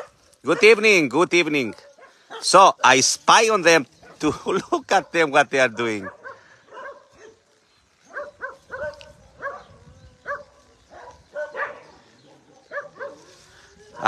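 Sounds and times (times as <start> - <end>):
dogs barking: 0.0 - 3.1, 4.0 - 4.3, 5.9 - 14.0.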